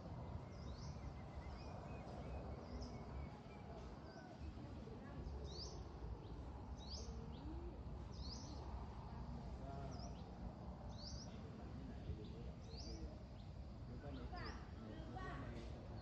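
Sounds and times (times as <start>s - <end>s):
steady low rumble: 0.0s - 14.0s
songbird chirping: 0.0s - 16.0s.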